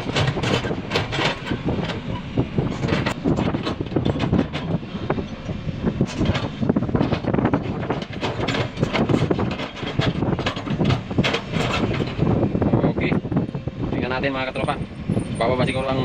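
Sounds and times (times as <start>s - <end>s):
diesel engine running: 0.0s - 16.0s
steel tracks clattering: 0.0s - 16.0s.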